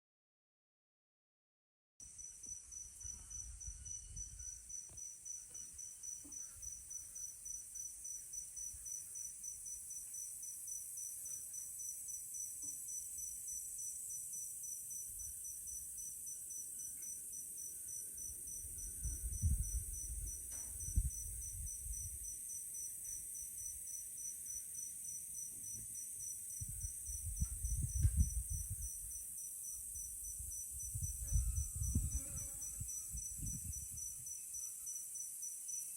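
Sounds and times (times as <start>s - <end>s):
crickets trilling: 2.0s - 35.9s
pulsed insect chirp: 2.1s - 35.9s.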